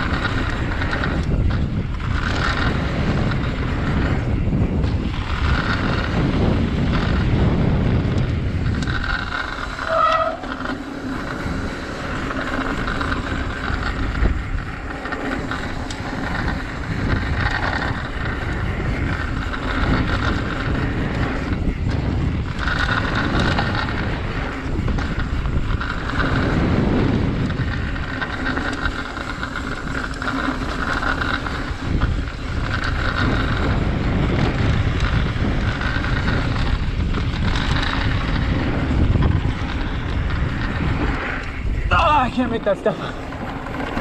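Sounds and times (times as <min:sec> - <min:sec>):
bike tyres rattling over rough ground: 0:00.0 - 0:44.0
wind rushing over microphone: 0:00.0 - 0:44.0.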